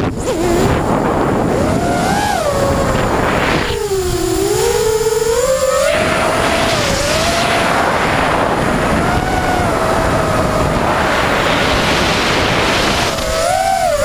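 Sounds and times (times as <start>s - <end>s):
drone motors whining: 0.0s - 14.0s
wind rush on microphone: 0.0s - 14.0s.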